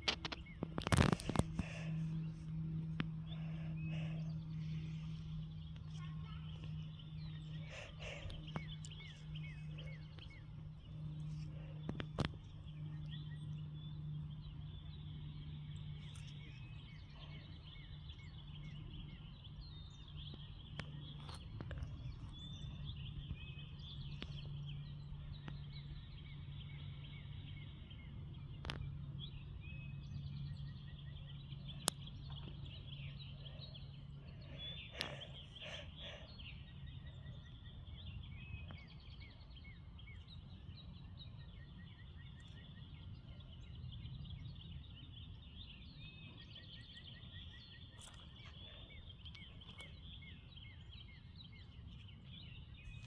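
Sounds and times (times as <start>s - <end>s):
small birds chirping: 0.0s - 53.0s
steady low hum: 0.0s - 53.0s.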